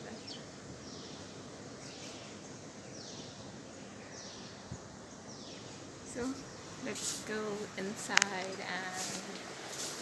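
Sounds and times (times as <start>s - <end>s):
outdoor background hum: 0.0s - 10.0s.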